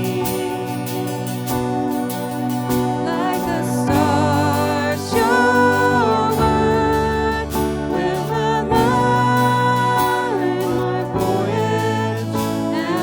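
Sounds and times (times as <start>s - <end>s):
person singing worship song: 0.0s - 13.0s
sustained instrumental accompaniment: 0.0s - 13.0s.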